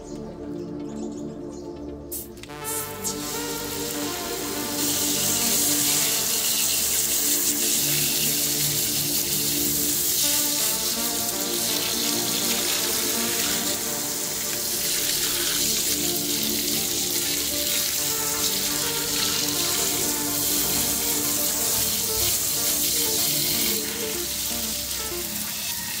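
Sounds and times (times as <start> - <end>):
background music: 0.0 - 26.0
hose water spraying on concrete: 2.1 - 26.0.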